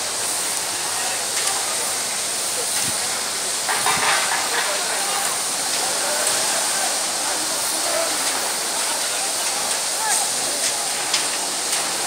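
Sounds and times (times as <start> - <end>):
river water rushing hiss: 0.0 - 12.0.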